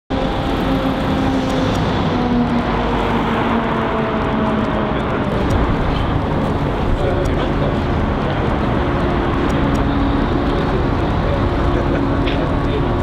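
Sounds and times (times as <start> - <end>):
steady vehicle noise: 0.1 - 13.0.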